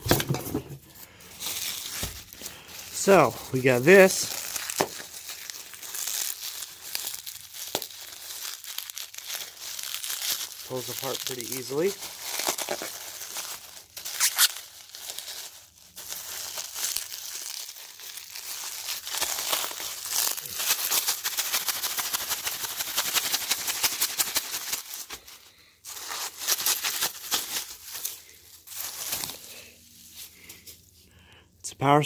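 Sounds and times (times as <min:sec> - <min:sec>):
bubble wrap crinkling: 0:00.0 - 0:31.2.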